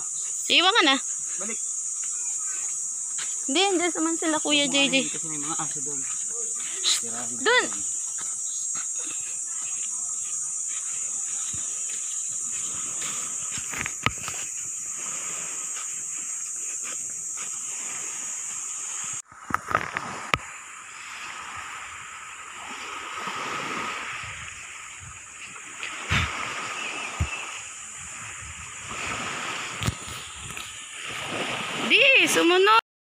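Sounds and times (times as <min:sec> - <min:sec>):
small waves washing onto beach: 0:00.0 - 0:32.8
steady high-pitched hiss: 0:00.0 - 0:32.8.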